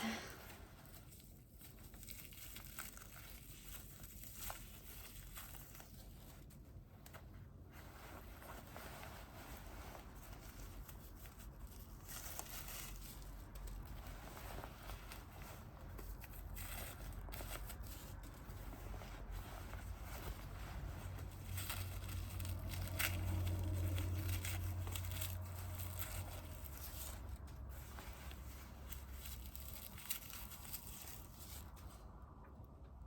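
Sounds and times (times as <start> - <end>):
fabric rustling and crinkling: 0.0 - 32.8.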